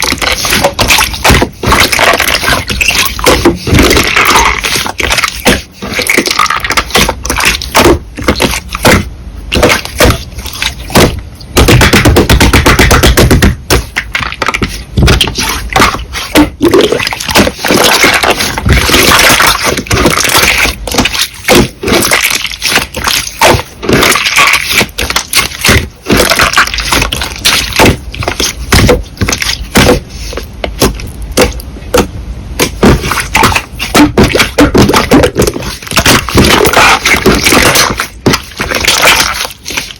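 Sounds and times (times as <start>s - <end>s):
slime crackling and popping: 0.0s - 30.0s, 30.7s - 39.9s.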